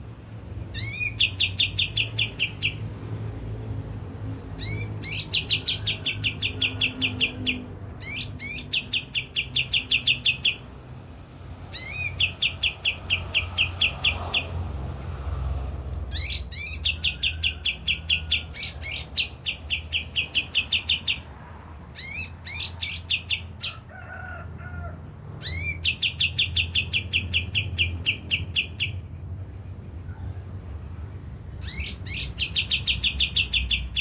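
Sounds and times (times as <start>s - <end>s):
songbird singing: 0.7s - 3.2s, 4.5s - 10.7s, 11.6s - 14.6s, 16.1s - 23.8s, 25.3s - 34.0s.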